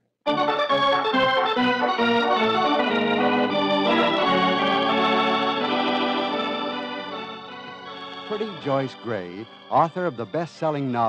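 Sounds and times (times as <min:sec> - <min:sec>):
organ chords: 0:00.3 - 0:11.0.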